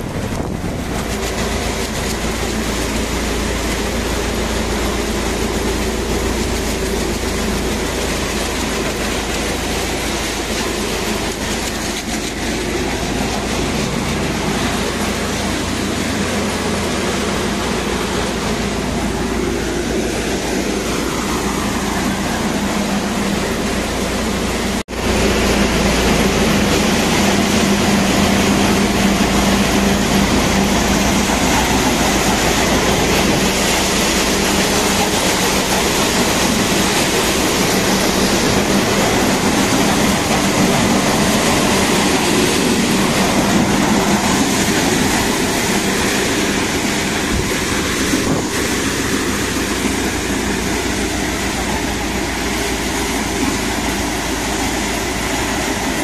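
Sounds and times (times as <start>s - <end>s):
thresher running: 0.0s - 56.0s.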